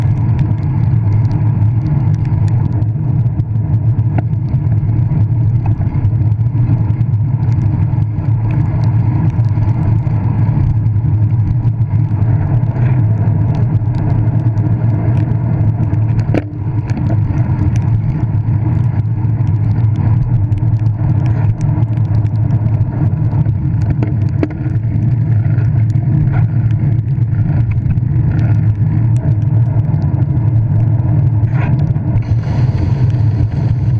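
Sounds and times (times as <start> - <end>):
small ticks: 0.0 - 32.3
bicycle tyre noise: 0.0 - 33.9
wind rumble: 0.0 - 33.9.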